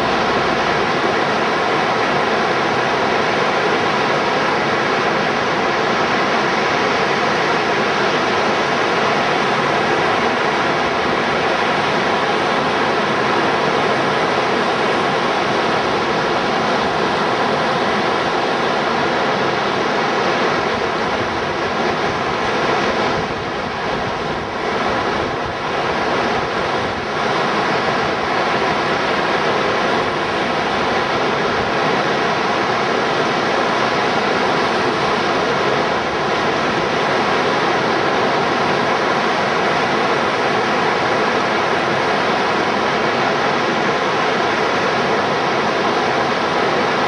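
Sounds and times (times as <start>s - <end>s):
rushing white water: 0.0s - 47.0s.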